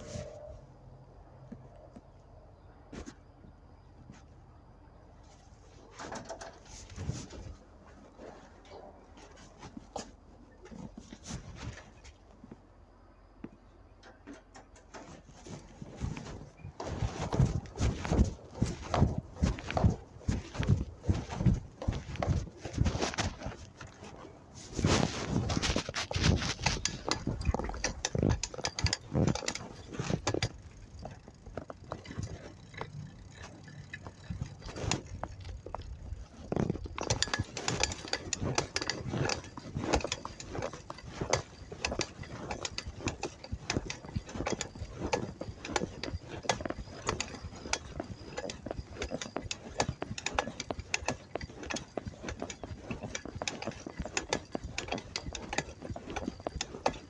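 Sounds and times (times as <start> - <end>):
bicycle clicking and rattling: 5.5 - 12.7, 13.5 - 57.0.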